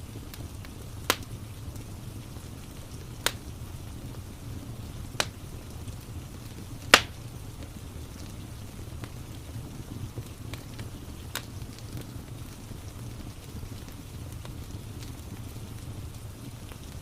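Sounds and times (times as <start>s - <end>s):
fire popping: 0.0s - 17.0s
fireplace crackling: 0.0s - 17.0s
rain hissing: 0.0s - 17.0s.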